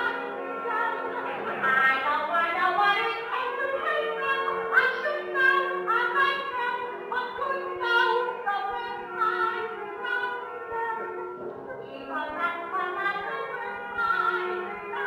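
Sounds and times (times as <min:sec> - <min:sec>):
musical accompaniment: 0:00.0 - 0:15.0
woman singing: 0:00.0 - 0:15.0.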